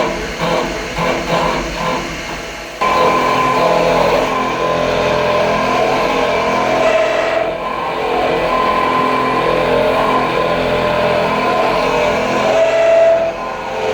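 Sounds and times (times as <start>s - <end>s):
milling machine cutting: 0.0s - 13.9s.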